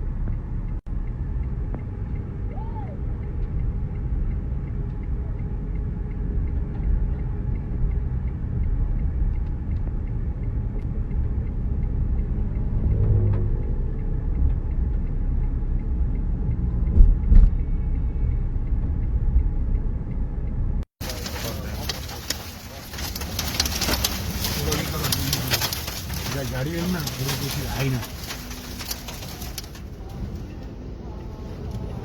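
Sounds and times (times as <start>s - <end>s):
road traffic: 0.0s - 32.0s.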